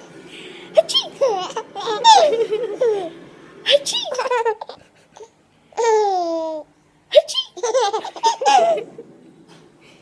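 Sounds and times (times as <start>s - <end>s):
baby laughing: 0.8s - 9.0s.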